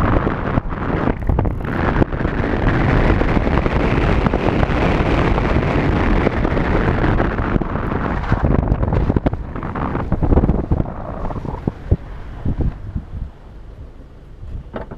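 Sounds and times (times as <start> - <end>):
tyres rumbling on snowy road: 0.0 - 14.9
wind buffeting microphone: 0.0 - 14.9.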